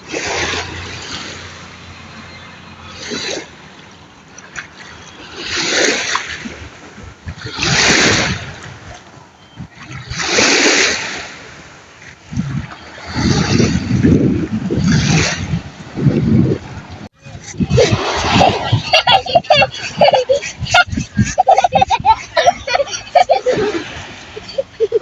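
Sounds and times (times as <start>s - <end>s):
sea waves breaking: 0.0s - 25.0s.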